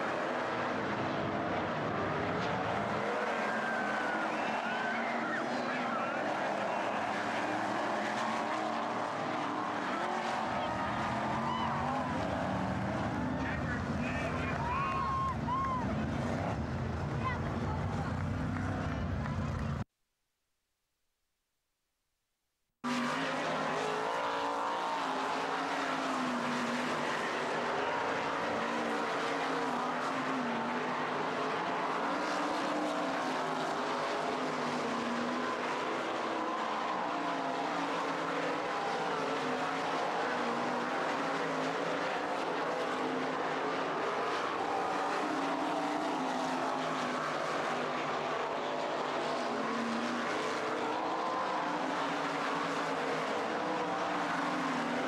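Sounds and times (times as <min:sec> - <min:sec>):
race car engines circling track: 0:00.0 - 0:19.8, 0:22.8 - 0:55.0.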